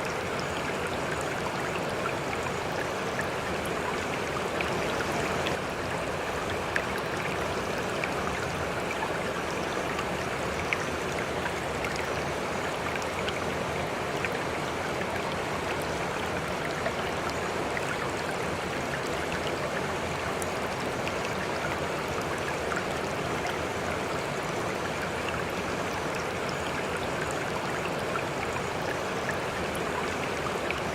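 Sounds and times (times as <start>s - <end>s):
river flowing: 0.0s - 30.9s.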